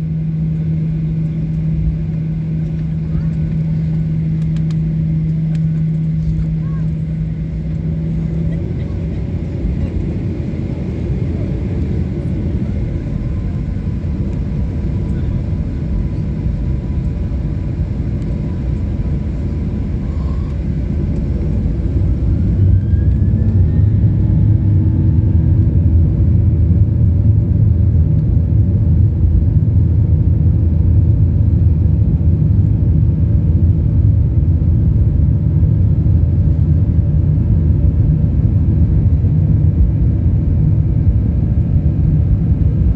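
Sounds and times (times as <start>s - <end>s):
jet engines heard from cabin: 0.0s - 42.9s.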